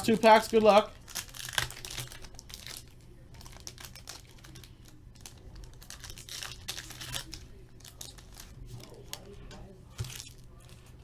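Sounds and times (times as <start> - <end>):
wrapper crinkling: 0.0 - 11.0.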